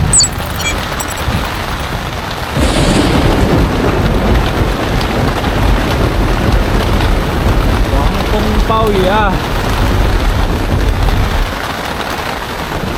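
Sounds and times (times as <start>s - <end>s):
heavy rain: 0.0s - 12.9s
wind: 0.0s - 12.9s
rolling thunder: 0.9s - 11.7s.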